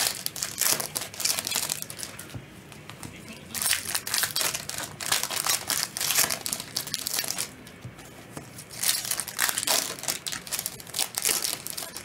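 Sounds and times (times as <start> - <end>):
card pack wrappers crinkling and tearing: 0.0 - 2.3, 3.5 - 7.6, 8.6 - 12.0.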